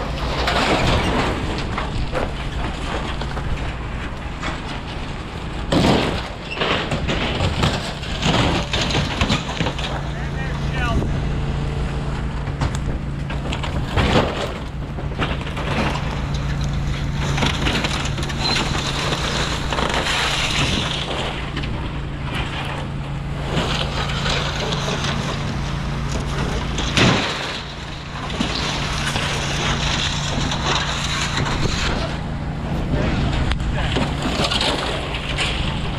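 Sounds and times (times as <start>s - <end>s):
debris and tin sheets crunching: 0.0s - 35.9s
engine drone: 0.0s - 35.9s.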